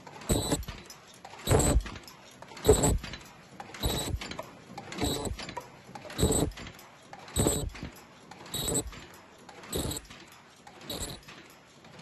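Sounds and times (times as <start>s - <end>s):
machine mechanical knocking: 0.2s - 2.0s, 2.6s - 10.2s, 10.8s - 11.4s.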